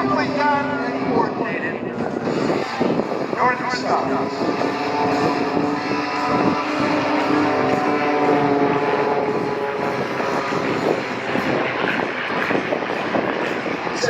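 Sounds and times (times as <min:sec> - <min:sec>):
aircraft engines droning: 0:00.0 - 0:14.0
rushing noise of aircraft: 0:00.0 - 0:14.0.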